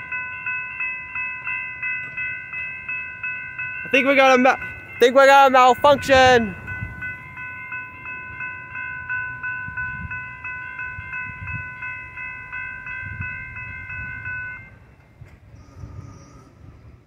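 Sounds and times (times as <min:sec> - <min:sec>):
railroad crossing bell ringing: 0:00.0 - 0:15.6.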